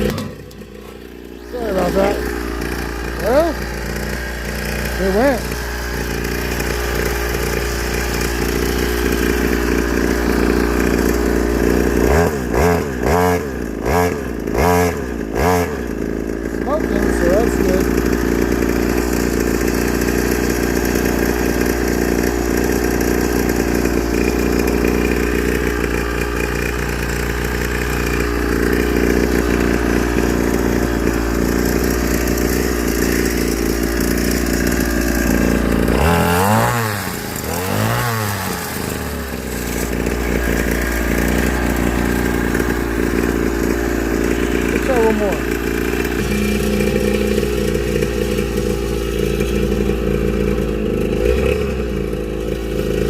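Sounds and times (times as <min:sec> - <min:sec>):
mini dirt bike engine revving: 0:00.0 - 0:53.0.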